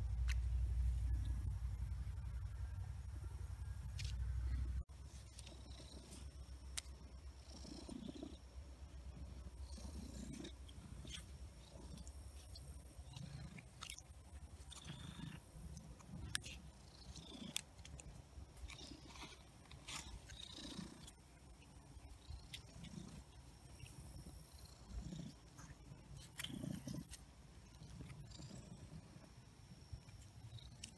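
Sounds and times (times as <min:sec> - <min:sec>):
cat purring: 0:04.3 - 0:30.9.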